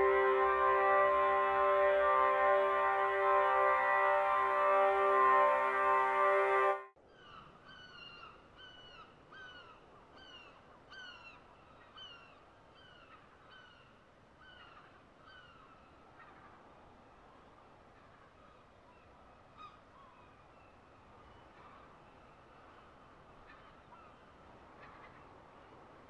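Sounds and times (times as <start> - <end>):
low background hiss: 0.0 - 26.0.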